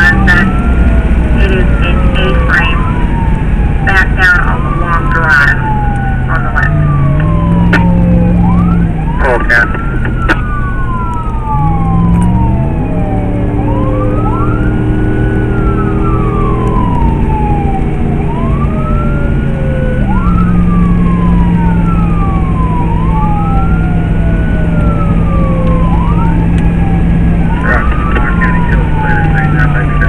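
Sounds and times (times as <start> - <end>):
road noise: 0.0 - 30.0
vehicle engine drone: 0.0 - 30.0
wailing siren: 0.0 - 30.0.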